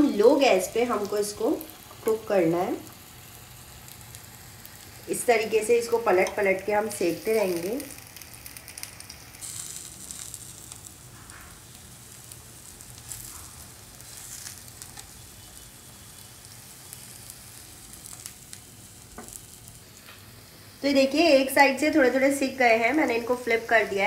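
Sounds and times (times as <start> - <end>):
kebabs sizzling in oil: 0.0 - 24.0.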